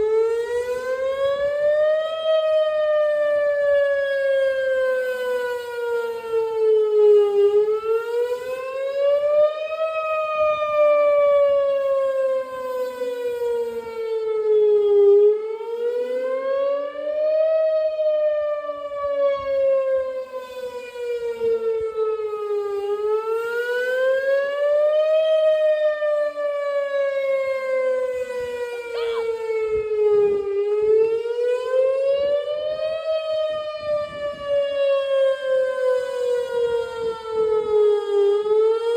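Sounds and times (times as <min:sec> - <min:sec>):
warning siren wail: 0:00.0 - 0:38.9.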